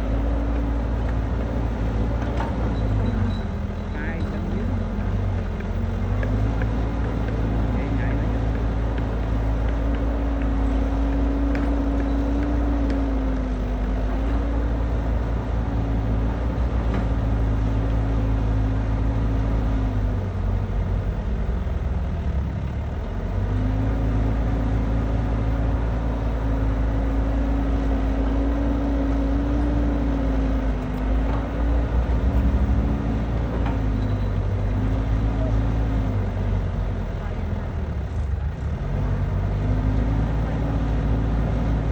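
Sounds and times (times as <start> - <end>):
combine harvester drone: 0.0 - 41.9.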